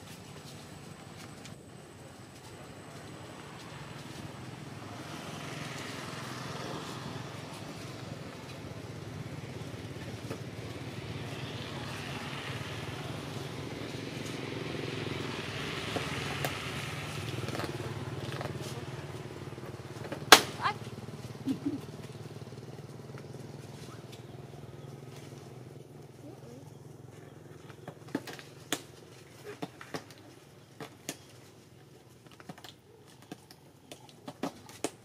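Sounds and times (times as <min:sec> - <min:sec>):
engine humming: 0:00.0 - 0:35.0.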